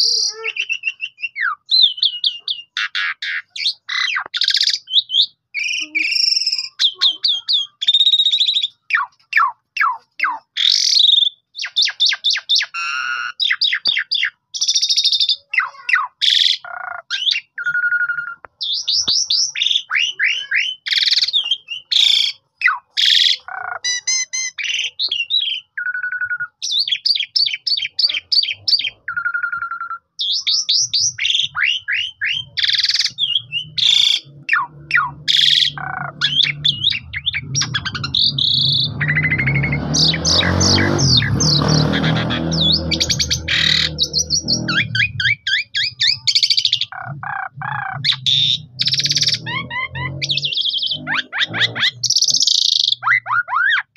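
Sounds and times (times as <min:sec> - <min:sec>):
starling singing: 0:00.0 - 0:53.9.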